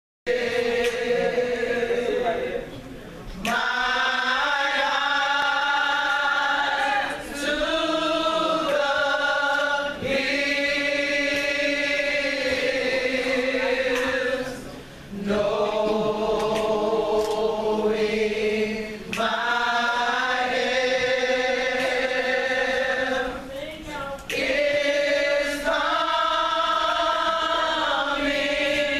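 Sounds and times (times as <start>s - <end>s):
vocal group singing in harmony: 0.3s - 28.9s.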